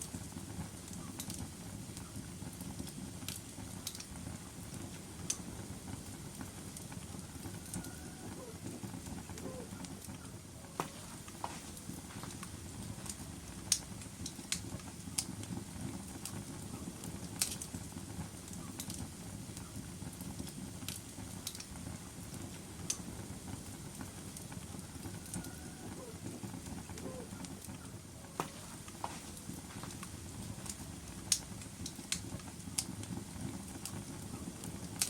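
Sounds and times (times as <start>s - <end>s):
fire crackles and pops: 0.0s - 35.0s
low rumble of flames: 0.0s - 35.0s.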